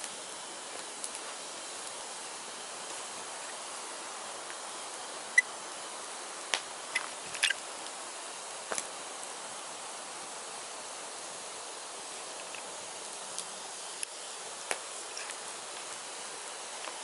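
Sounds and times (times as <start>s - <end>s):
fire crackles and pops: 0.0s - 17.0s
firewood burning with hiss: 0.0s - 17.0s.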